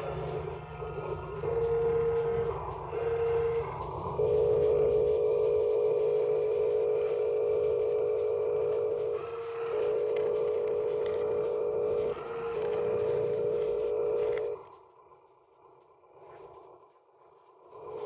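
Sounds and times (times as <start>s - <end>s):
small electric motors whining: 0.0s - 14.7s.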